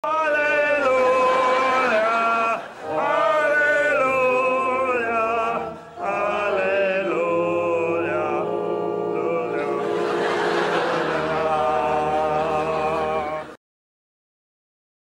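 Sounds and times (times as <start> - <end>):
congregation singing a hymn: 0.0 - 13.6.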